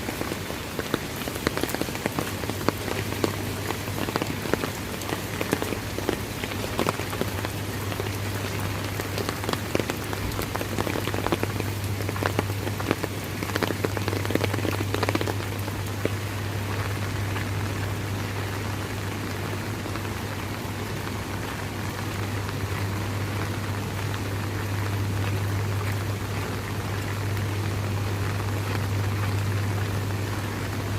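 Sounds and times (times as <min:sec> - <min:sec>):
low steady hum: 0:00.0 - 0:30.9
sharp raindrop impacts: 0:00.0 - 0:30.9
steady rain: 0:00.0 - 0:30.9.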